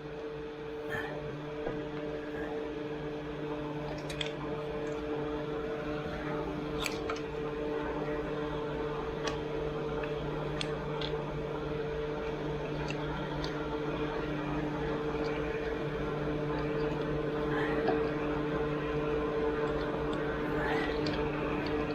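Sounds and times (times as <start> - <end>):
machine humming: 0.0 - 21.9.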